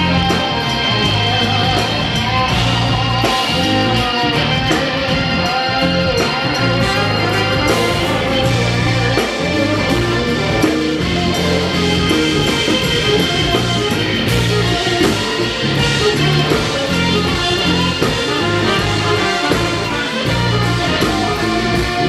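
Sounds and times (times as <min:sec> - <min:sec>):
drum kit beat: 0:00.0 - 0:22.0
live band playing: 0:00.0 - 0:22.0.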